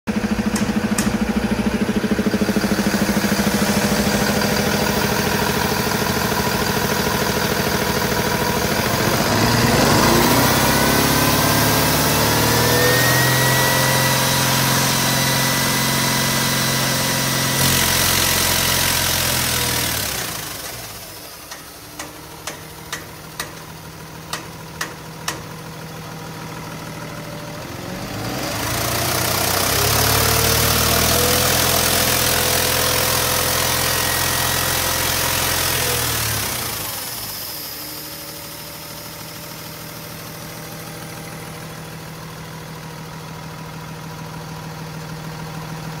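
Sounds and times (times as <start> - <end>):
diesel engine idling and revving: 0.1 - 46.0.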